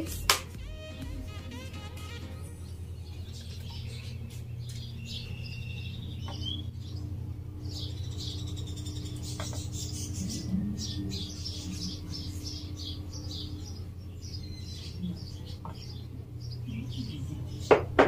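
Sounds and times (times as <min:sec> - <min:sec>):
birds chirping: 0:00.0 - 0:18.0
steady low hum: 0:00.0 - 0:18.0.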